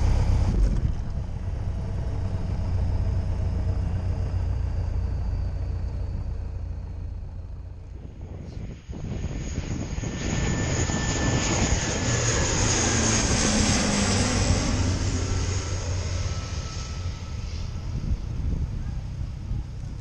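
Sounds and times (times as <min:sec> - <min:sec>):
high engine whine: 0:00.0 - 0:20.0
propeller aircraft fly-past: 0:00.0 - 0:20.0.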